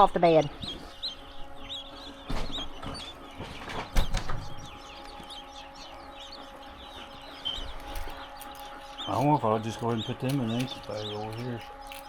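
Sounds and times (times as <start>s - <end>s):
chicks peeping: 0.0s - 12.0s
steady hum: 0.0s - 12.0s.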